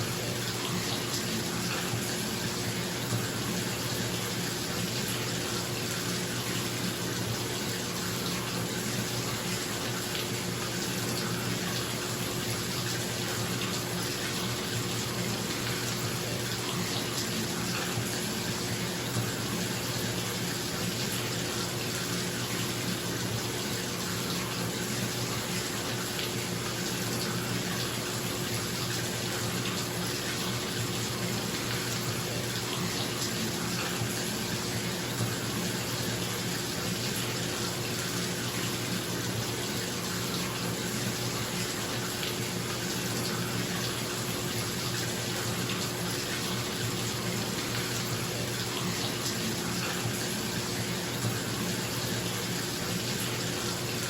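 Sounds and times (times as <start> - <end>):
tap water filling bathtub: 0.0 - 54.0.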